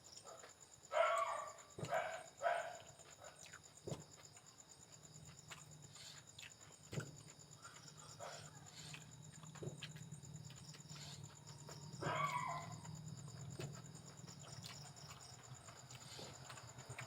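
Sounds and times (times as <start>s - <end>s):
faint low hum: 0.0s - 17.0s
person chewing food: 2.8s - 17.0s.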